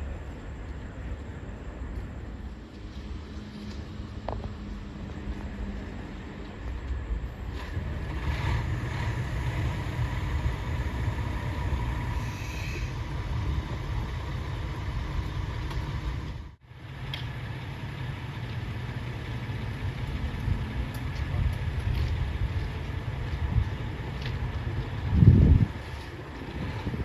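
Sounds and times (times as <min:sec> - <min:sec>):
diesel train engine rumbling: 0:00.0 - 0:27.0.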